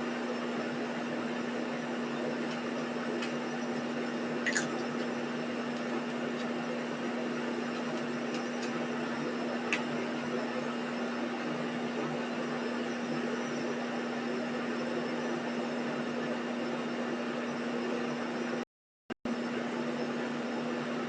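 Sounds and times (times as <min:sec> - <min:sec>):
steady mechanical hum: 0:00.0 - 0:18.6, 0:19.3 - 0:21.0.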